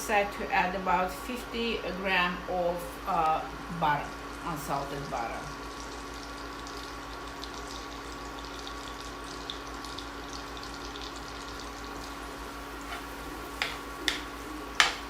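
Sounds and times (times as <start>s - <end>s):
onion sizzling in a frying pan: 0.1s - 15.0s.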